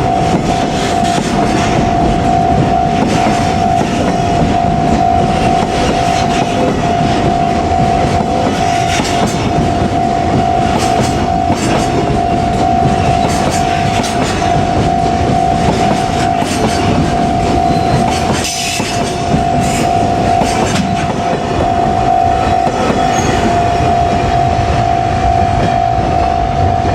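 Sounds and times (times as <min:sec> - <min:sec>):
freight train wheels clattering: 0:00.0 - 0:24.9
crossing warning bell ringing: 0:00.0 - 0:26.9.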